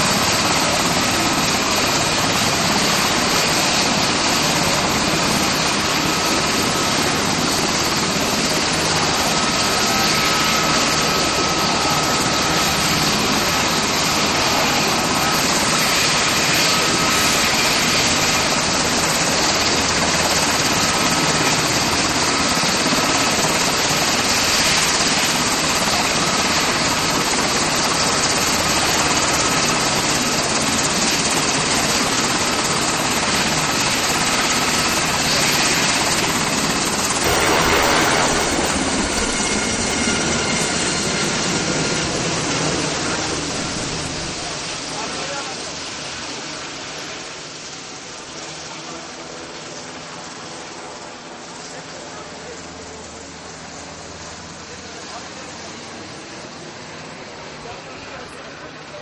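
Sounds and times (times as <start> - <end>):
helicopter turbine engine running: 0.0 - 59.0.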